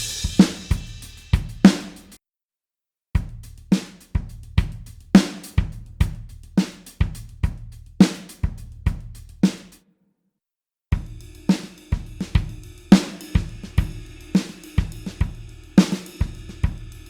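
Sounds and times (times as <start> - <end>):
rock drum beat: 0.0 - 2.2, 3.2 - 9.6, 11.0 - 17.0.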